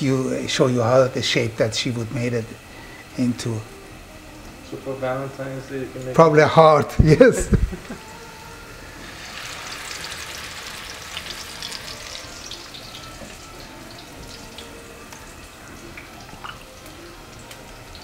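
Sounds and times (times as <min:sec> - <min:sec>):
patties sizzling in hot oil: 0:00.1 - 0:18.0.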